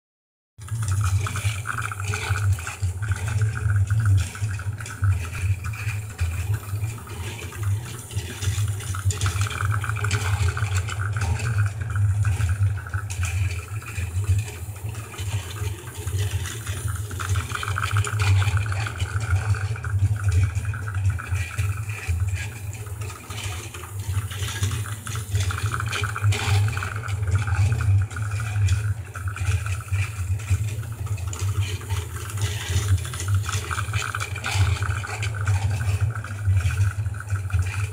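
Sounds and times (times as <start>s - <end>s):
low motor hum: 0.6s - 37.9s
toy train whirring and rattling: 0.6s - 37.9s.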